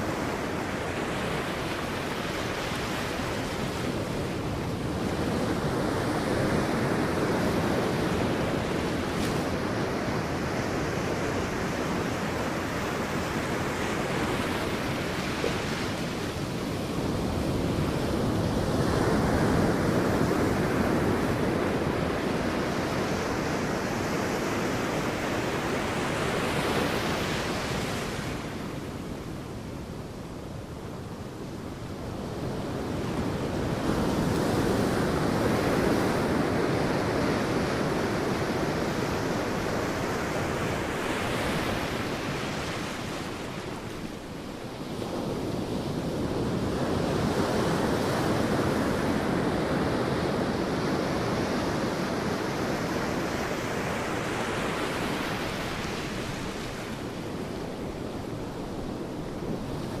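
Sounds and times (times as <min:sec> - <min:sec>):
sea waves breaking on beach: 0:00.0 - 1:00.0.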